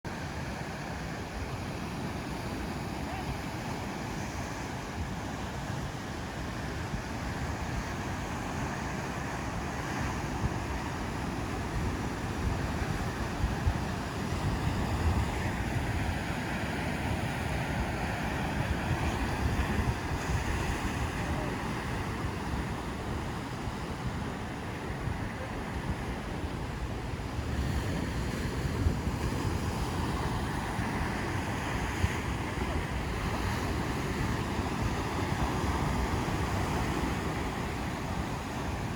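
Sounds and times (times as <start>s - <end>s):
ocean surf washing ashore: 0.1s - 38.9s
wind rumbling on microphone: 0.1s - 38.9s.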